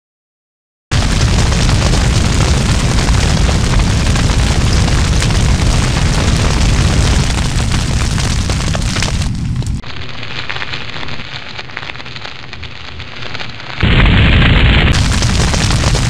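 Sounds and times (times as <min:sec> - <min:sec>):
fire burning and crackling: 0:00.9 - 0:16.0.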